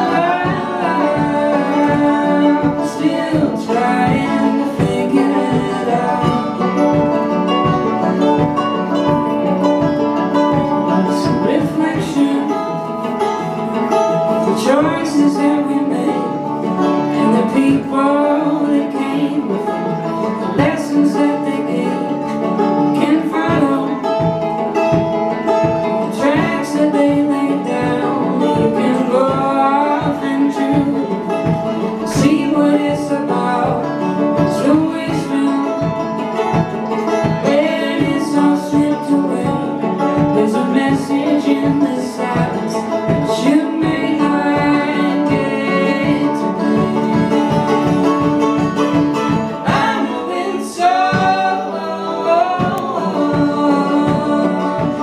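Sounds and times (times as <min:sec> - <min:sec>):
folk band playing: 0:00.0 - 0:55.0.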